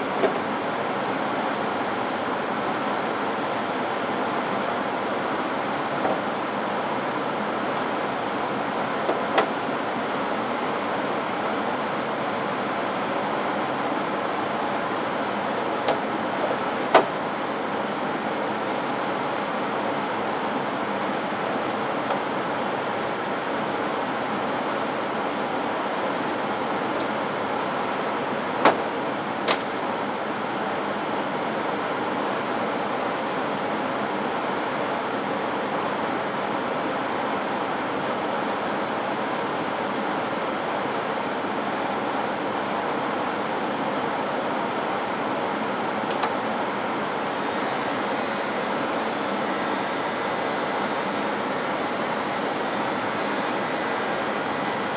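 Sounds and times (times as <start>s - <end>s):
blower fan rushing: 0.0s - 54.9s.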